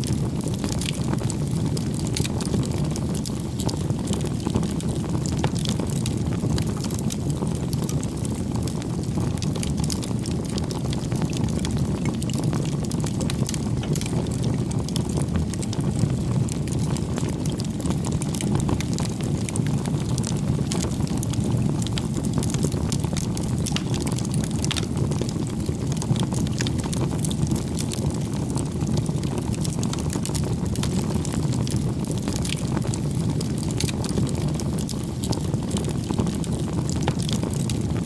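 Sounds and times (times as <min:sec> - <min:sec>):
burning wood crackling: 0:00.0 - 0:38.0
campfire flames rushing: 0:00.0 - 0:38.0.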